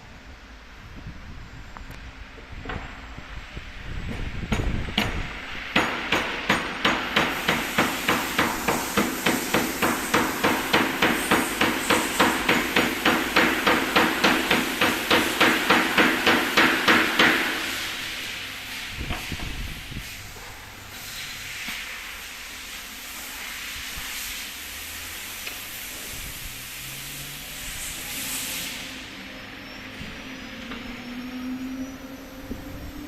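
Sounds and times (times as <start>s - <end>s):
hiss: 3.2s - 33.0s.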